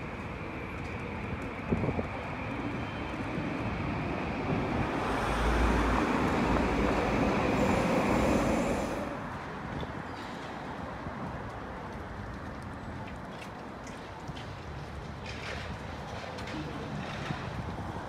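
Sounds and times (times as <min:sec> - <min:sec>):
train rumbling on guideway: 0:00.0 - 0:12.5, 0:14.0 - 0:18.0.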